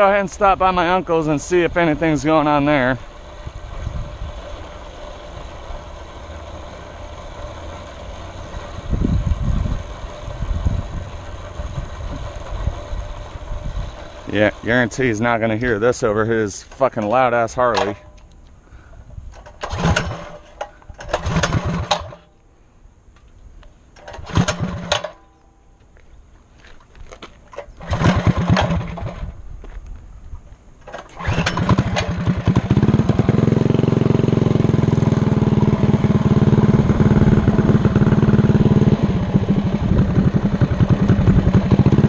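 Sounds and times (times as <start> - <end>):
vehicle engine low rumble: 0.0 - 42.0.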